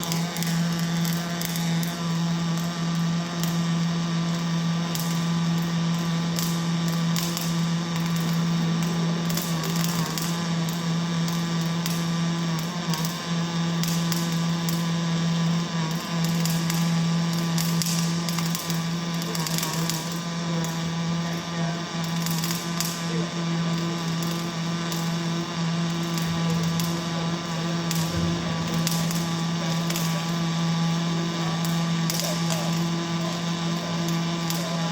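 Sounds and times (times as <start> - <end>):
arc welding buzzing hum: 0.0 - 34.9
welding arc crackling: 0.0 - 34.9.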